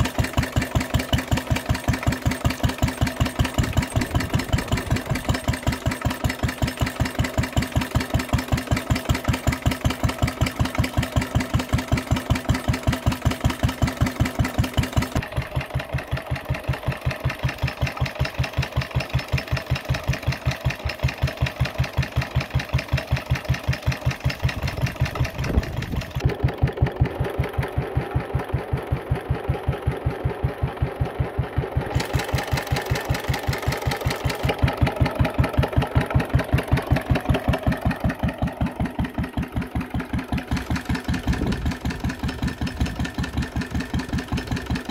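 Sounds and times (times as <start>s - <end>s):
stationary engine running: 0.0s - 44.9s.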